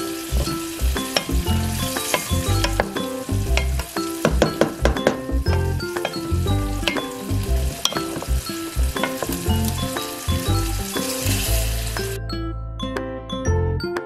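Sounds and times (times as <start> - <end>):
food sizzling in a pot: 0.0 - 12.2
background music with bass: 0.0 - 14.0
wooden spoon stirring: 0.3 - 12.2.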